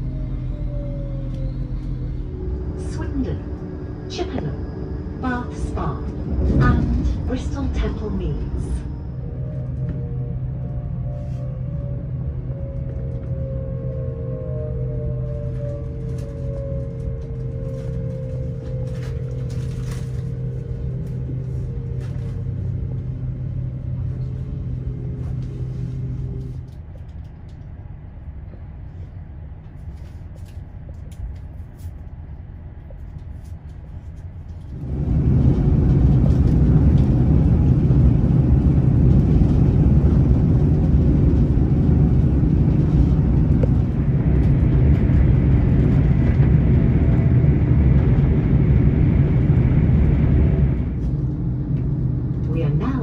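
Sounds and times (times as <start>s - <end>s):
train carriage hum: 0.0s - 53.0s
train rumbling at speed: 0.0s - 53.0s.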